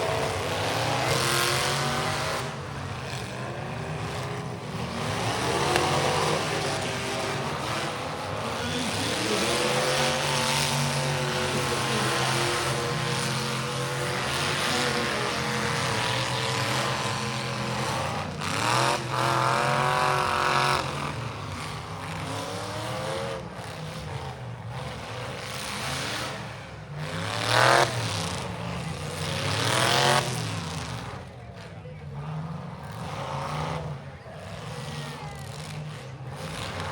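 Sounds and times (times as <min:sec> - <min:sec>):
car engines revving: 0:00.0 - 0:36.9.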